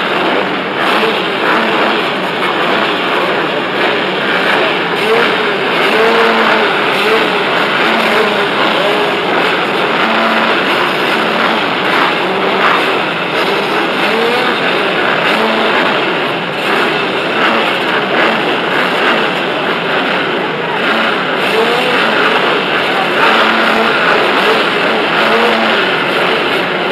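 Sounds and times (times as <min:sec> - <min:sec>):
motocross bike engines revving: 0:00.0 - 0:26.9.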